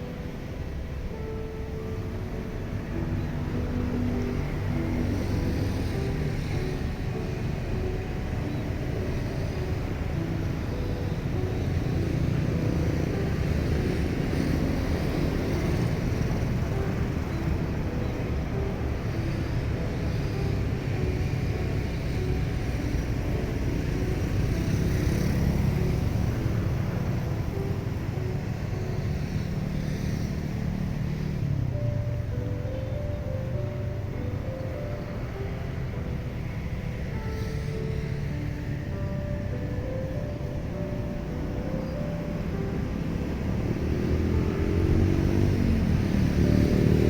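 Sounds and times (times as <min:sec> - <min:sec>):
low engine rumble: 0:00.0 - 0:47.0.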